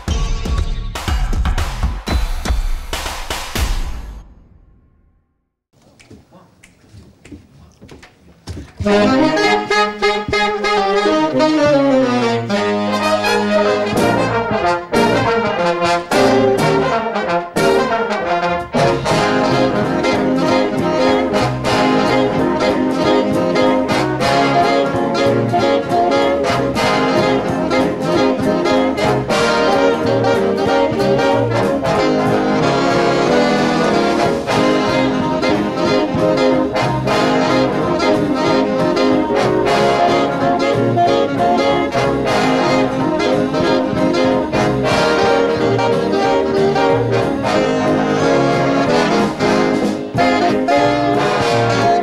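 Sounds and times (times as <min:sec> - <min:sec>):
big band playing jazz: 0:08.8 - 0:52.0.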